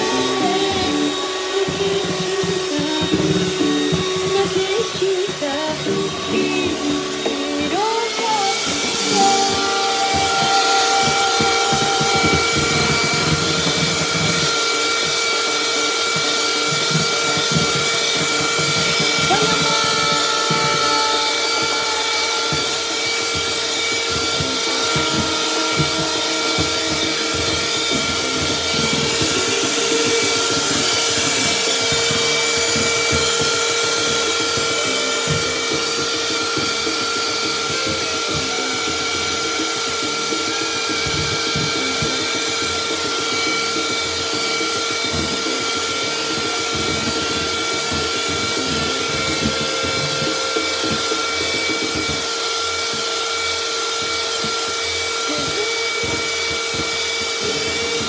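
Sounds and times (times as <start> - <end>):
electric hand mixer whining: 0.0 - 58.0.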